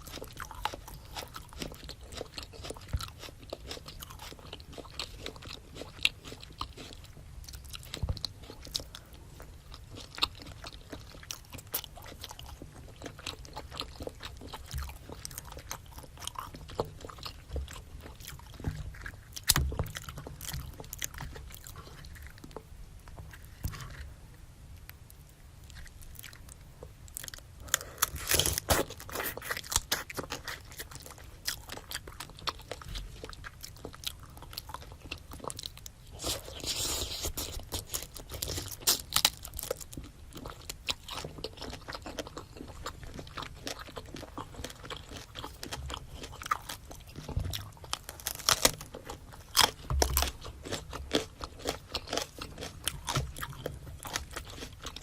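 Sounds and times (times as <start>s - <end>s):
crunchy chewing and biting: 0.0s - 24.2s, 24.8s - 55.0s.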